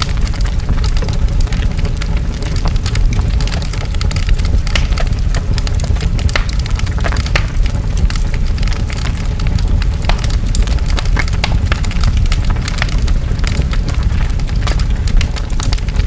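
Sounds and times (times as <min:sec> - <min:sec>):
burning wood crackling and popping: 0:00.0 - 0:16.0
forest fire roaring: 0:00.0 - 0:16.0.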